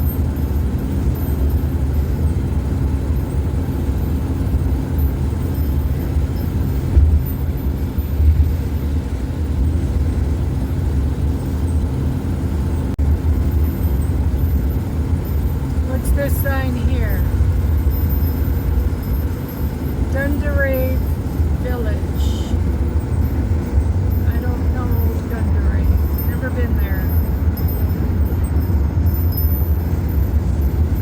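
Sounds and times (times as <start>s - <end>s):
engine and road rumble: 0.0s - 31.0s.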